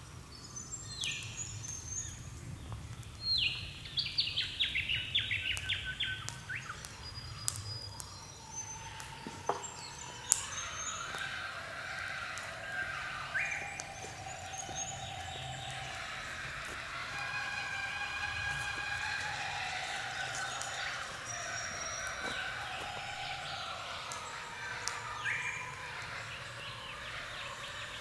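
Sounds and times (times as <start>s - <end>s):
birds chirping and whistling: 0.5s - 28.0s.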